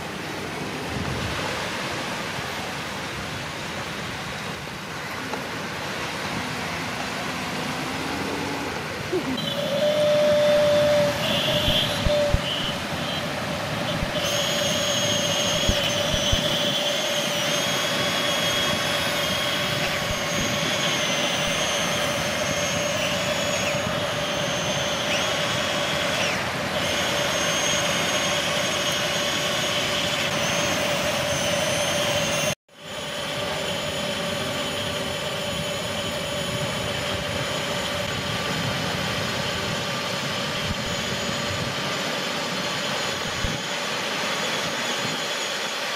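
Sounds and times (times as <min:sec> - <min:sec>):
electric motors whining: 0:05.3 - 0:45.9.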